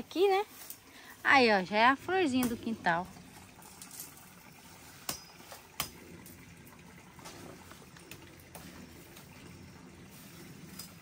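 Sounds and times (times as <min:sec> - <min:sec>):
trickle of stream water: 0:00.0 - 0:11.0.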